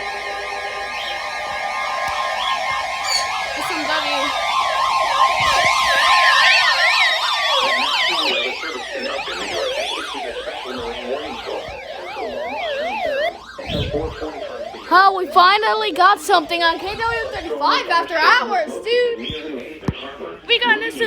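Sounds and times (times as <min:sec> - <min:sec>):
electronic siren alarms sweeping: 0:00.0 - 0:18.2
slow falling siren sweeps: 0:00.0 - 0:18.2
steady alert tone: 0:00.6 - 0:17.6.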